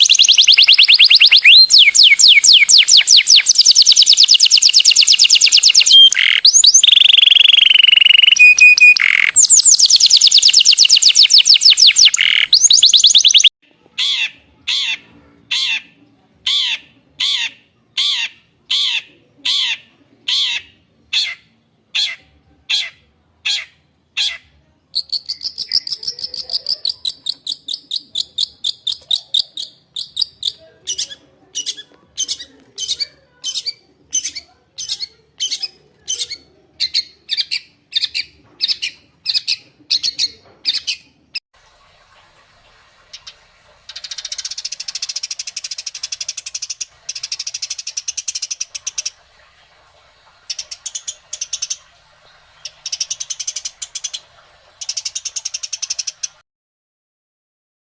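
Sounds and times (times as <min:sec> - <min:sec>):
songbird chirping and trilling: 0:00.0 - 0:41.4, 0:43.2 - 0:49.2, 0:50.5 - 0:56.4.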